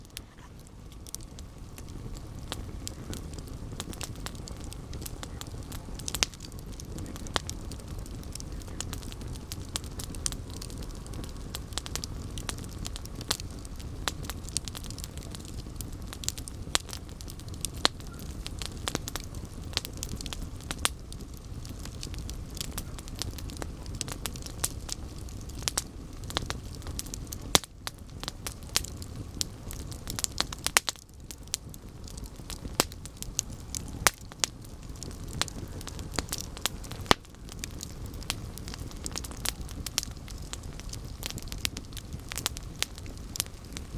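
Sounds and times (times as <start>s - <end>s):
burning wood crackling: 0.0s - 43.9s
campfire flames rumbling: 0.0s - 43.9s.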